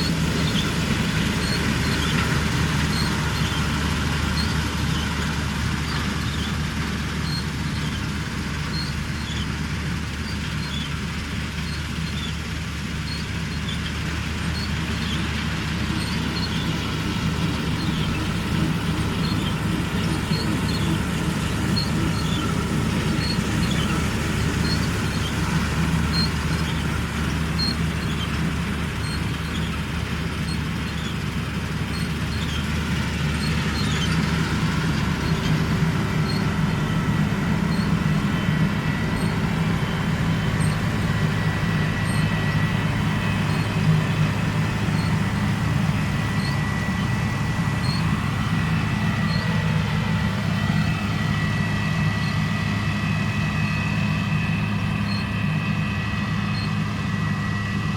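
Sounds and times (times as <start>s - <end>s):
combine harvester engine hum: 0.0s - 57.9s.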